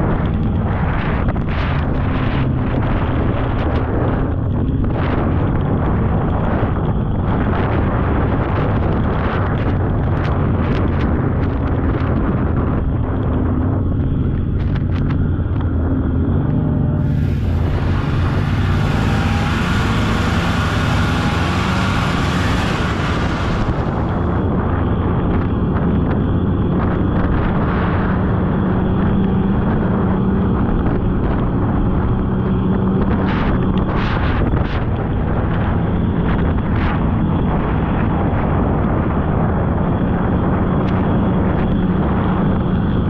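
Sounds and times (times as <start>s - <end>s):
snowmobile engine rumbling: 0.0s - 35.7s.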